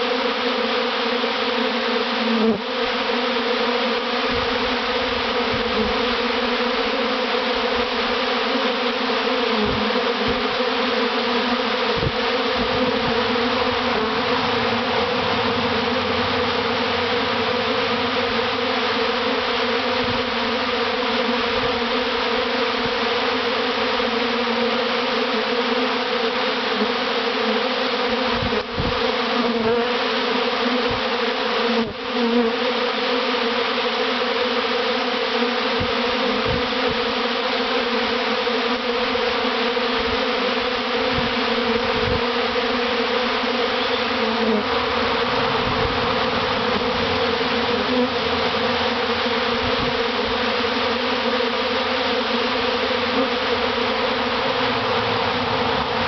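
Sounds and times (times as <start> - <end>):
bee swarm buzzing: 0.0 - 56.0.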